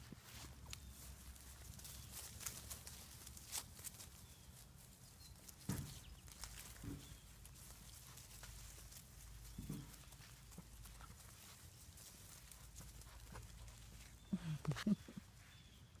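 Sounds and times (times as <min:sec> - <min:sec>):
puppies scuffling on grass: 0:00.0 - 0:16.0.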